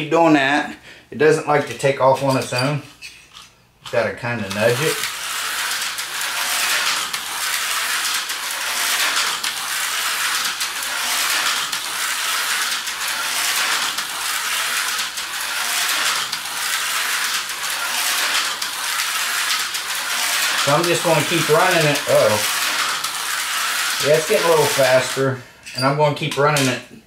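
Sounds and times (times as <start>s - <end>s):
slot car whirring: 1.6s - 25.4s.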